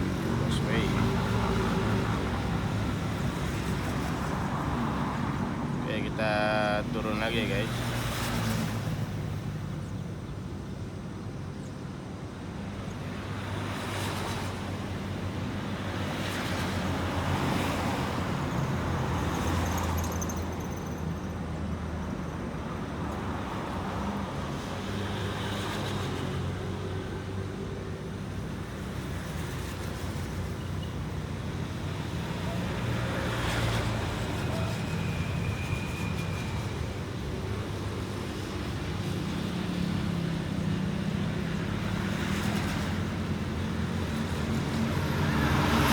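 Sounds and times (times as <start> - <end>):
vehicle engines and tyres rumbling: 0.0 - 45.9.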